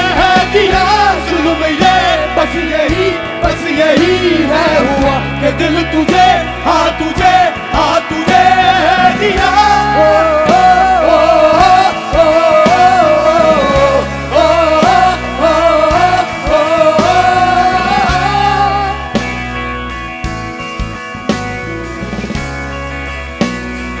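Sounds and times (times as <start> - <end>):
person singing: 0.0 - 19.2
bass notes: 0.0 - 24.0
ornamented melody line: 0.0 - 24.0.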